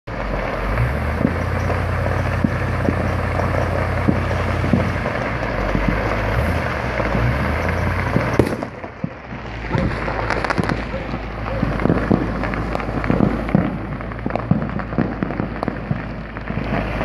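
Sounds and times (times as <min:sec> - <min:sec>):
distant traffic: 0:00.1 - 0:17.0.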